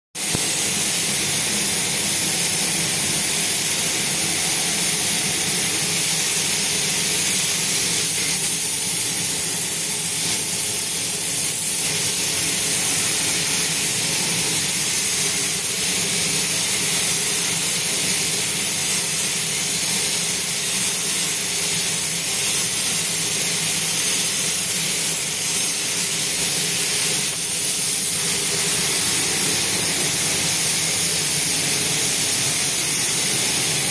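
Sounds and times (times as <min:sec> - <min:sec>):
spray gun hissing: 0:00.2 - 0:33.9.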